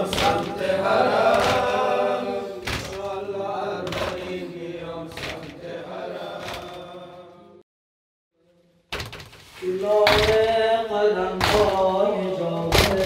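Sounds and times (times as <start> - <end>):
men chanting a lament: 0.0 - 7.6, 9.6 - 13.0.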